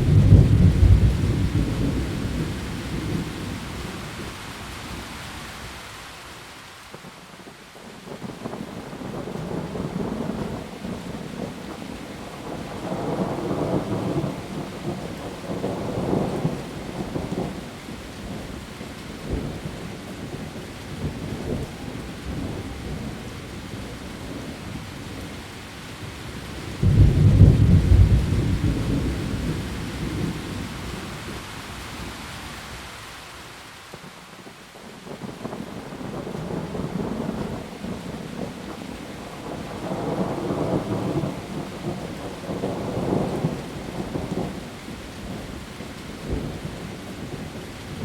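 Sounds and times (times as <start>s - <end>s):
low rolls of thunder: 0.0s - 4.3s, 8.0s - 25.3s, 26.1s - 31.4s, 35.0s - 48.0s
heavy rain on leaves: 0.0s - 48.0s.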